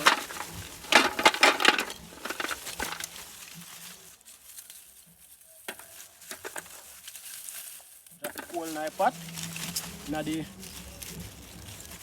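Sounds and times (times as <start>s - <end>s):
charcoal rustling and clinking: 0.0s - 12.0s.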